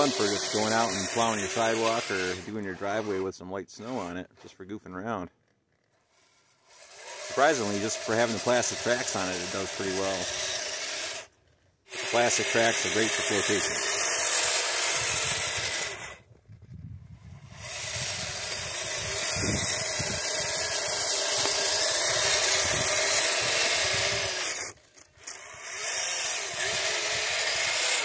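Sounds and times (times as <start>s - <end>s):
electric motors whirring and grinding: 0.0s - 4.2s, 5.7s - 28.0s.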